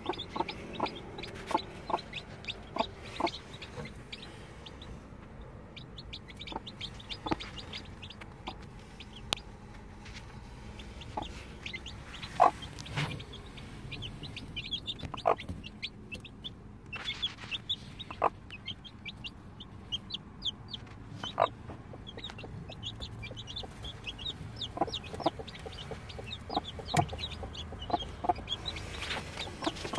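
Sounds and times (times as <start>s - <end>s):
chicks peeping: 0.0s - 29.9s
hen clucking: 0.0s - 29.9s.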